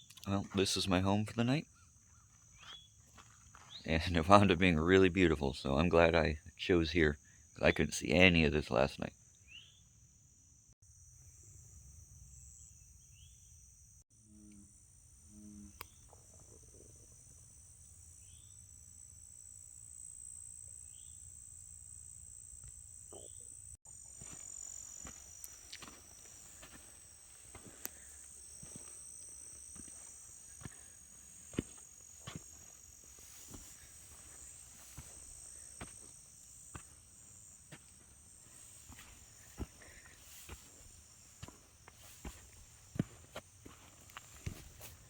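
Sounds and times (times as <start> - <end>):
insects droning: 0.0 - 45.0.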